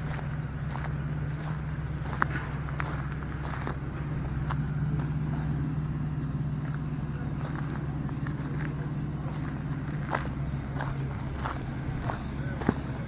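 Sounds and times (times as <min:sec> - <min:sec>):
gravel ticking under tyres: 0:00.0 - 0:13.0
vehicle engine droning: 0:00.0 - 0:13.0.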